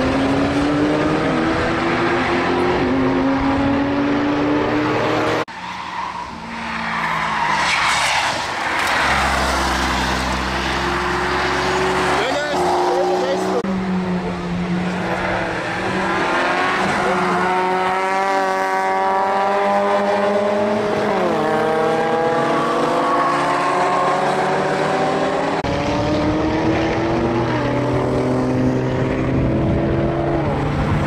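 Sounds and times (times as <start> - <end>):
car and motorcycle engines accelerating: 0.0 - 5.5, 8.9 - 31.0.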